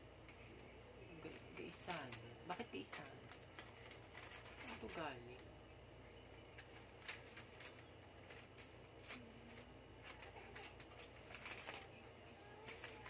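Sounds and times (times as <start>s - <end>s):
paper leaflet rustling: 1.2s - 5.4s, 6.5s - 13.0s.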